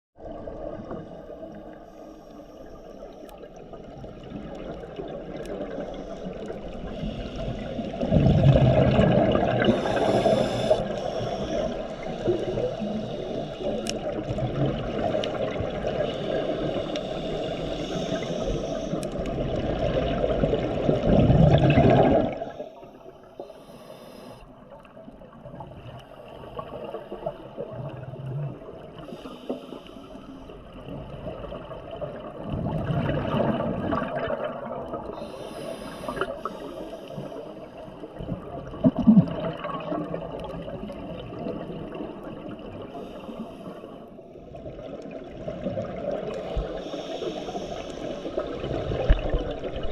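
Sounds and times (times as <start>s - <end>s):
exhaled bubbles underwater: 0.2s - 1.8s, 3.3s - 23.6s, 24.5s - 29.8s, 30.5s - 49.9s.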